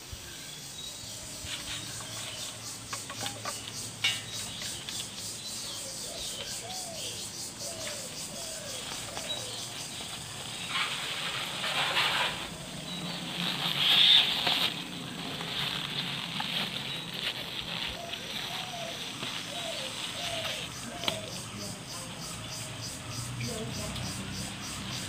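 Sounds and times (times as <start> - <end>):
leaves rustling and crinkling: 0.0 - 22.3.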